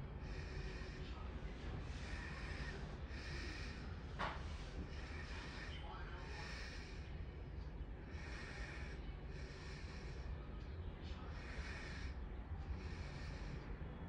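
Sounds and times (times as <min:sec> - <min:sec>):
nasal breathing: 0:00.0 - 0:14.0
steady low rumble: 0:00.0 - 0:14.0.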